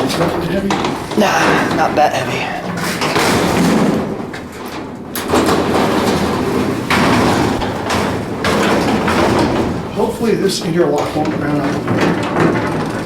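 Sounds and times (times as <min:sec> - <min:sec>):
elevator doors sliding on tracks: 0:00.0 - 0:13.0.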